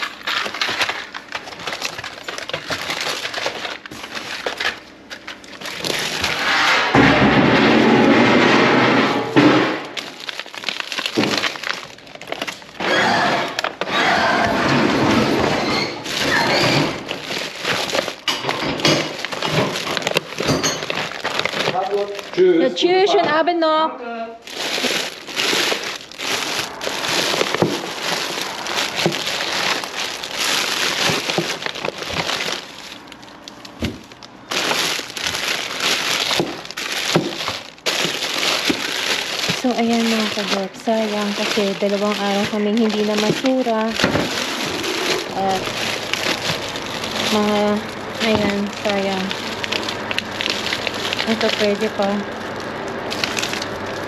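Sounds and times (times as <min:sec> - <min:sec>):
plastic packaging crinkling: 0:00.0 - 0:23.2, 0:24.4 - 0:54.0.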